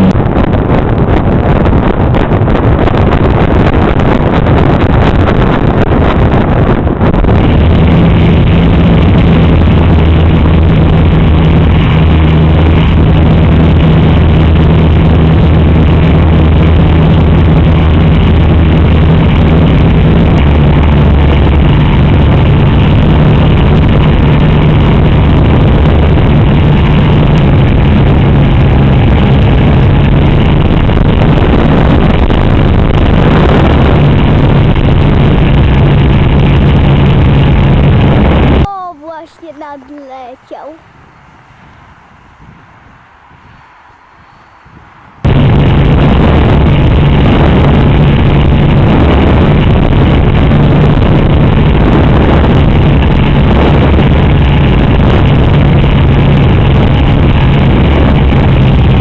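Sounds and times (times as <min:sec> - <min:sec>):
low droning hum: 0:00.0 - 0:38.7, 0:40.8 - 0:59.0.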